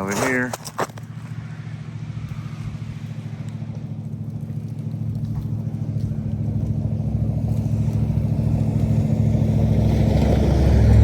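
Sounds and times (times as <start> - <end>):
vehicle driving on icy road: 0.0 - 11.0.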